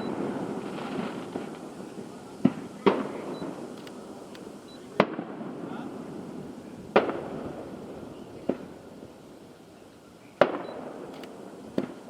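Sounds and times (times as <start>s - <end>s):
fireworks shells bursting: 0.0s - 9.5s, 10.3s - 12.0s.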